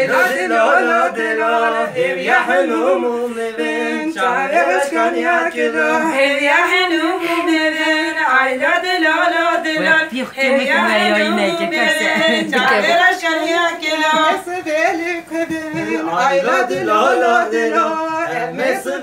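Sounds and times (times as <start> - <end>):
voices singing unaccompanied folk song: 0.0 - 19.0.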